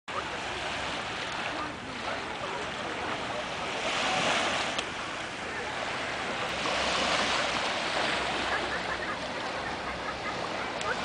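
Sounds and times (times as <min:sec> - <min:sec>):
surf washing up a sandy beach: 0:00.1 - 0:11.0.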